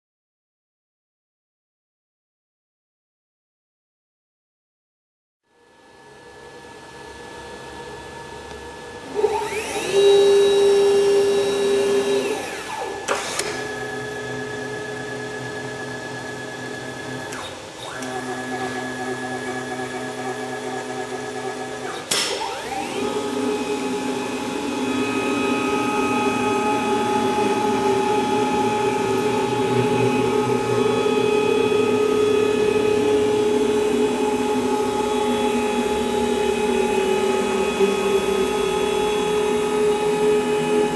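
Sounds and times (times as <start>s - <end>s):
router motor whine: 5.5s - 40.9s.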